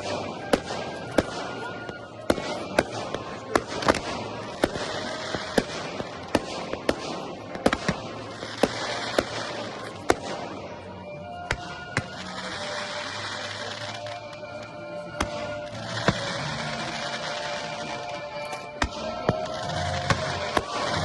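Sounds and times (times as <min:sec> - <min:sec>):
fireworks bangs: 0:00.0 - 0:21.0
fireworks crackle: 0:00.0 - 0:21.0.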